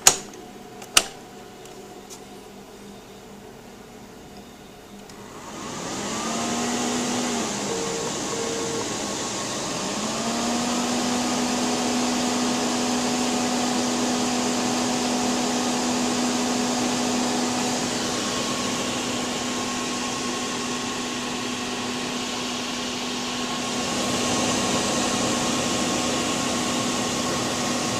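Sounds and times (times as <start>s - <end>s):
computer cooling fans humming: 0.0s - 27.9s.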